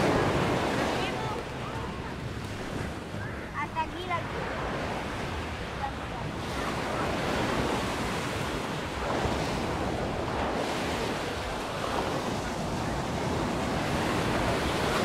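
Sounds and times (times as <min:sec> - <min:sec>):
sea waves washing onto beach: 0:00.0 - 0:15.0
wind on microphone: 0:00.0 - 0:15.0.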